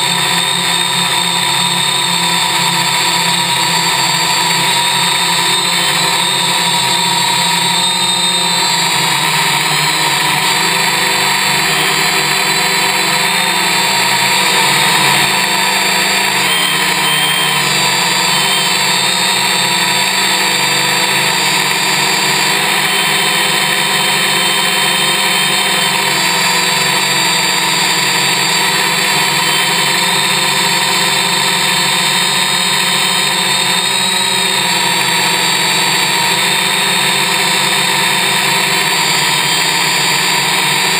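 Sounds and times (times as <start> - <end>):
drone motors and propellers whining: 0.0 - 40.9.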